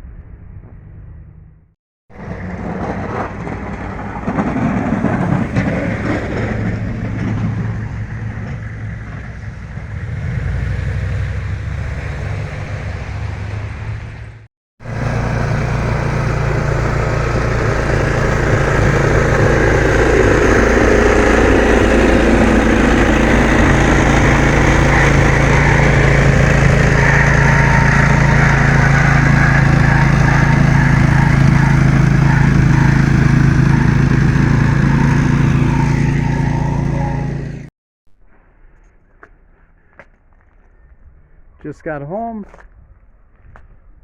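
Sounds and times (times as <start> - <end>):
engine humming: 0.2 - 37.7.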